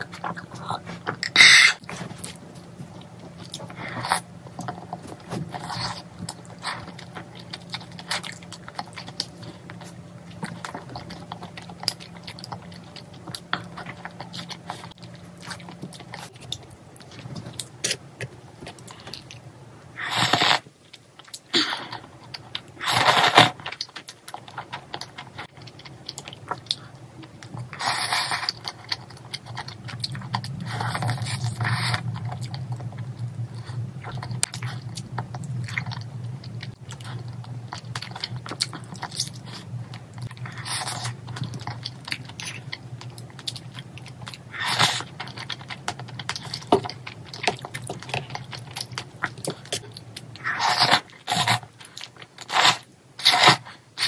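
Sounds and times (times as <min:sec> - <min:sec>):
close chewing and mouth clicks: 0:00.0 - 0:19.5, 0:20.1 - 0:54.0.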